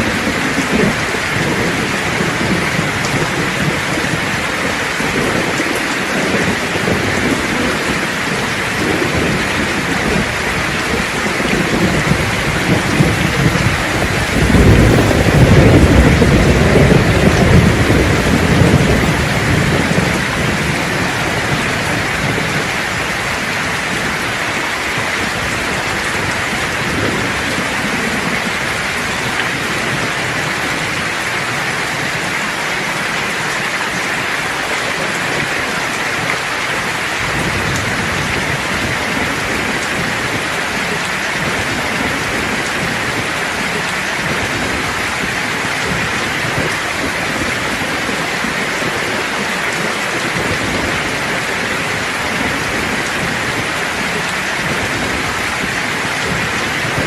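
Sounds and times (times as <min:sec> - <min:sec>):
steady rain: 0:00.0 - 0:57.0
thunder rumbling: 0:00.0 - 0:57.0.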